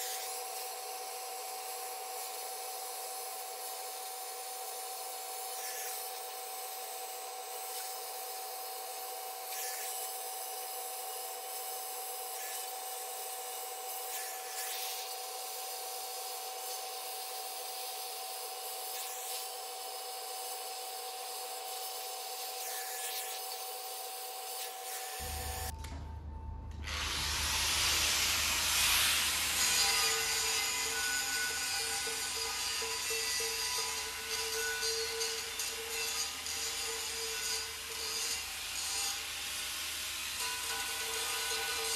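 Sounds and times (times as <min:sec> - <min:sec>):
cutting torch hissing: 0:00.0 - 0:25.7, 0:26.9 - 0:41.9.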